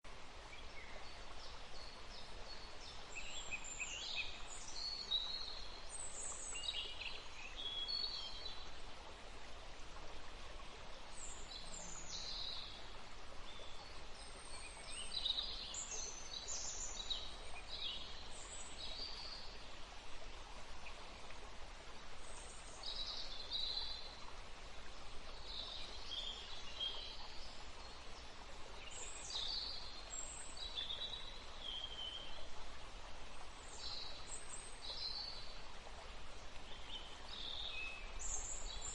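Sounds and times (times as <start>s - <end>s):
steady background hiss: 0.1s - 38.9s.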